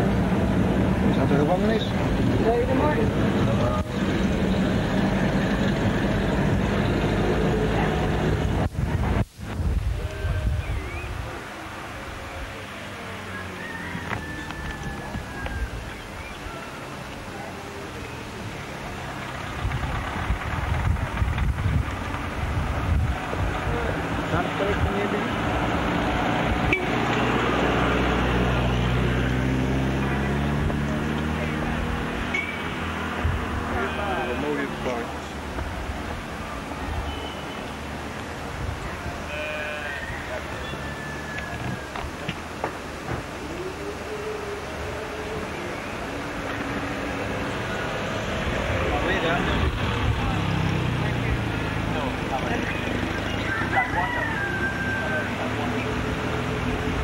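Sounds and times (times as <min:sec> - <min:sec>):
road noise rushing: 0:00.0 - 0:57.0
vehicle engine drone: 0:00.0 - 0:57.0.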